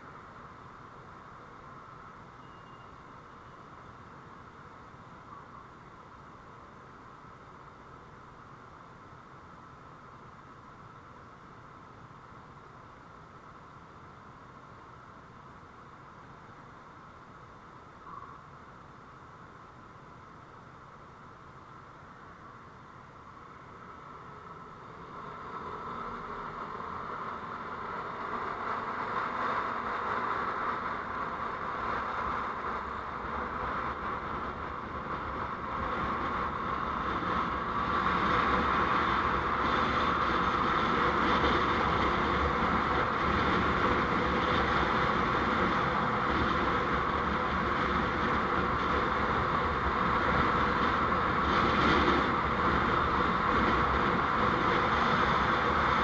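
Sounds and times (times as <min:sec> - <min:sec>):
vehicle road noise on board: 0:00.0 - 0:56.0.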